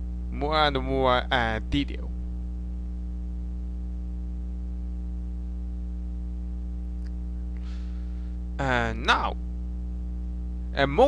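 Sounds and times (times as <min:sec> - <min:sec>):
low electrical mains hum: 0:00.0 - 0:11.0.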